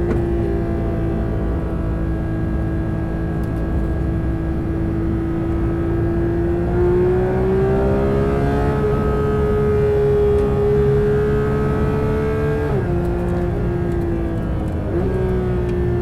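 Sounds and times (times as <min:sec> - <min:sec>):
car engine revs rising: 0:00.0 - 0:16.0.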